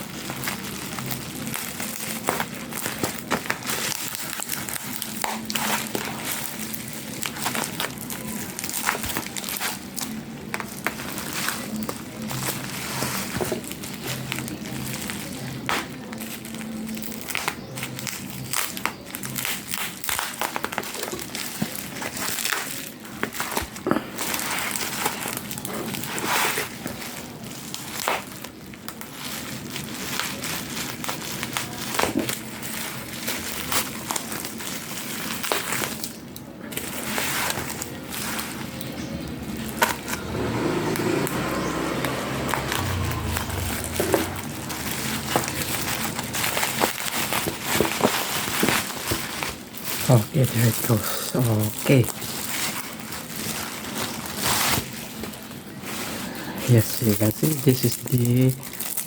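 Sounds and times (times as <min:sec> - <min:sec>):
plastic packaging crinkling: 0:00.0 - 0:59.0.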